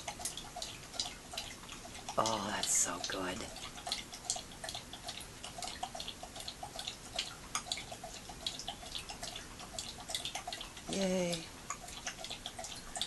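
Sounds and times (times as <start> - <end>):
dog lapping from metal bowl: 0.0 - 10.9, 11.6 - 13.0.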